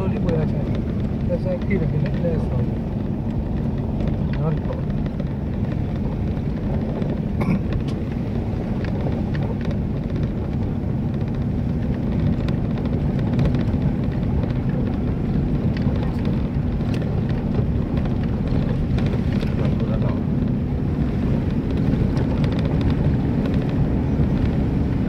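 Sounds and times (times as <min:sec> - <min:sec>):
knocks and rattles from bumps: 0:00.0 - 0:25.0
vehicle rumbling on dirt track: 0:00.0 - 0:25.0.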